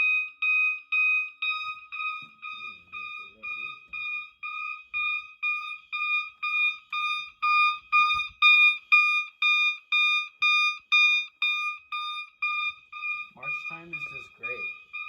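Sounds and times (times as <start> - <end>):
fire alarm horns pulsing: 0.0 - 15.0.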